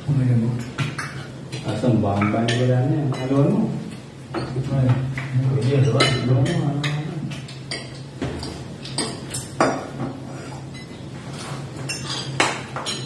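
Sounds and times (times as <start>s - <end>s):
cutlery clinking on plates: 0.6s - 13.0s.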